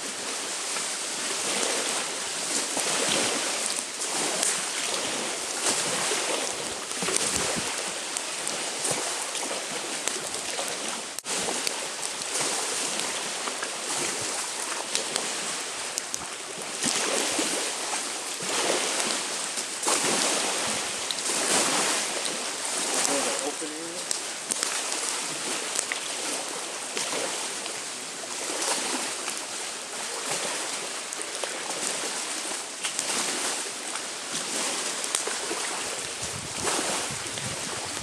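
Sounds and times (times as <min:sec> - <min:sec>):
waves washing onto shore: 0:00.0 - 0:38.0
wind: 0:00.0 - 0:38.0.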